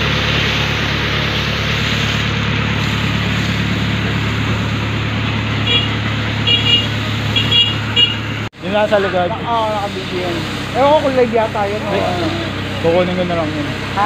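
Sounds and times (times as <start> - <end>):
fire pump engine running: 0.0 - 14.0
water spraying from hose nozzle: 0.0 - 14.0.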